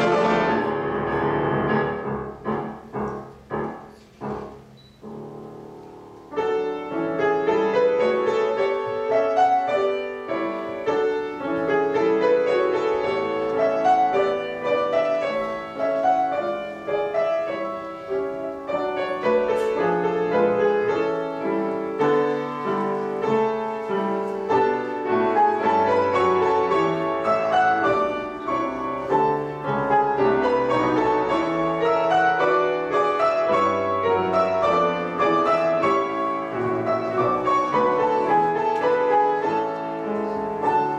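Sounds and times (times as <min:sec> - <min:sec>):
solo classical piano piece: 0:00.0 - 0:40.9.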